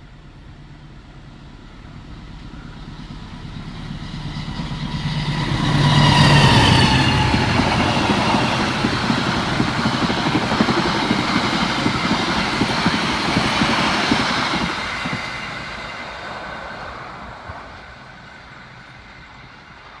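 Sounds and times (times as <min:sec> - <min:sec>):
locomotive engine passing: 0:00.0 - 0:20.0
train wheels clattering on rails: 0:00.0 - 0:20.0.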